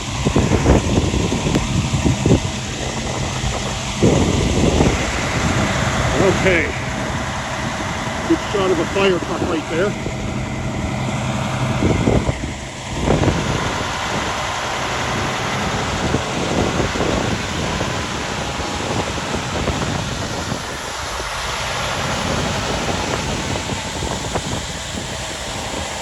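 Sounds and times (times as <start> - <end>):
street traffic: 0.0 - 25.6
diesel trucks idling: 0.0 - 26.0
wind on microphone: 0.0 - 26.0.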